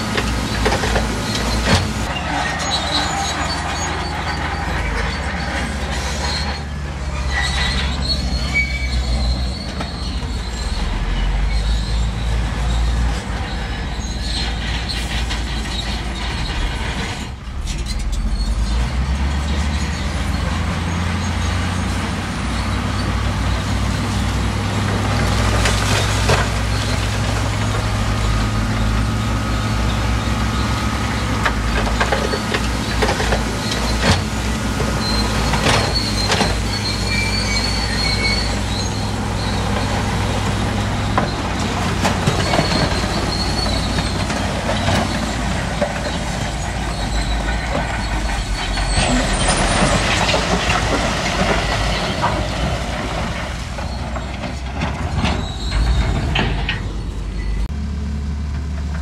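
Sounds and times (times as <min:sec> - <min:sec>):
steel tracks clanking and squealing: 0:00.0 - 0:57.8
diesel engine drone: 0:00.0 - 0:59.0.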